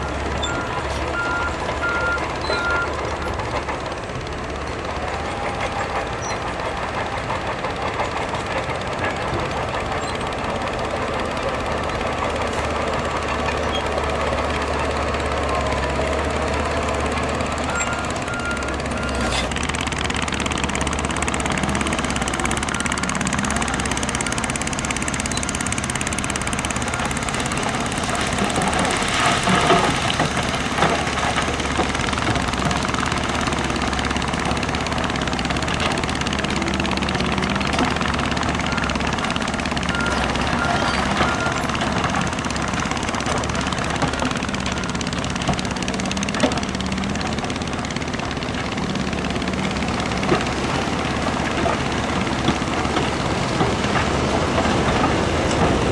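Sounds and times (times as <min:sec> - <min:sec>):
heavy diesel machinery running: 0:00.0 - 0:55.9.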